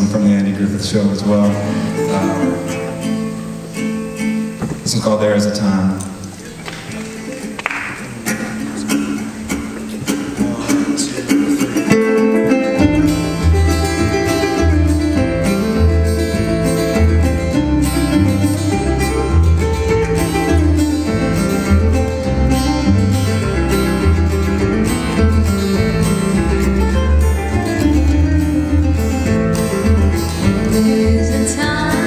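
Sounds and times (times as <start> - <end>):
acoustic guitars picking: 0.0 - 32.0
upright bass: 0.0 - 32.0.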